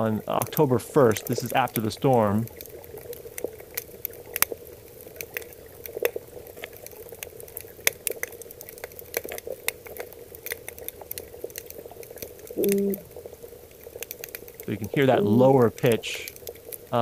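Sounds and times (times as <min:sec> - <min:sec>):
underwater clicks and crackle: 0:00.0 - 0:17.0.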